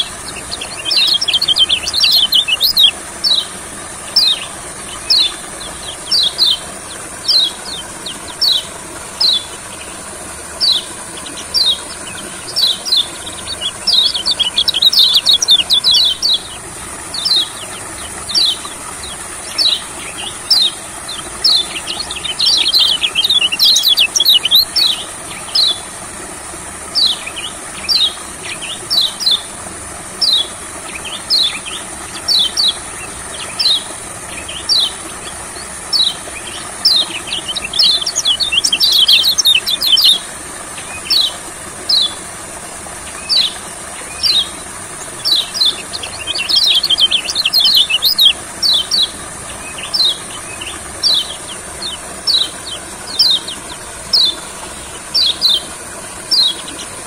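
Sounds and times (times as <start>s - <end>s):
bird chirping and chattering: 0.0s - 25.8s, 30.2s - 40.2s, 43.1s - 55.7s, 56.3s - 57.0s.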